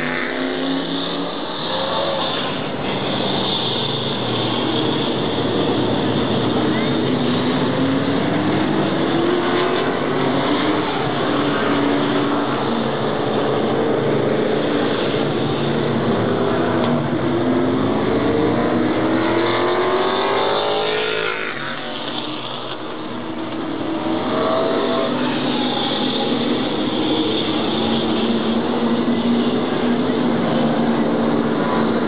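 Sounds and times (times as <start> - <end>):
race car engines: 0.0 - 32.0.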